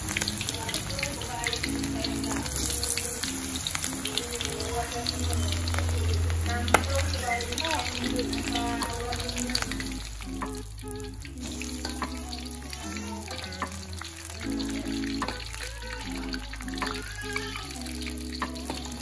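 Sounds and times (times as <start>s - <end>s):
background music: 0.0s - 19.0s
oil bubbling sizzle: 0.0s - 19.0s.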